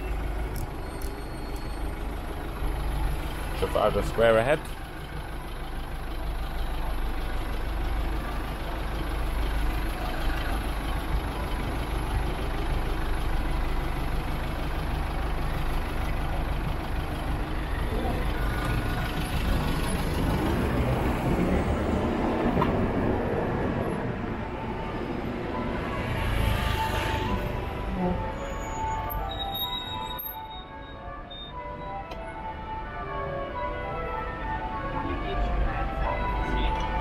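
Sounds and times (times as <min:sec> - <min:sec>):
city traffic rumble: 0:00.0 - 0:37.0.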